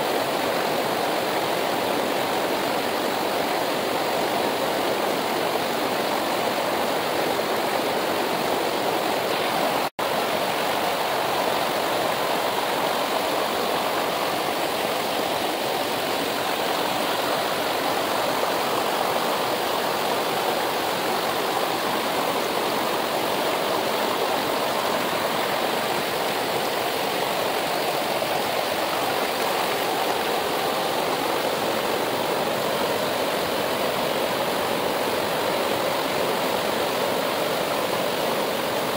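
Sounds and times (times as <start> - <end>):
rushing river water: 0.0 - 38.9.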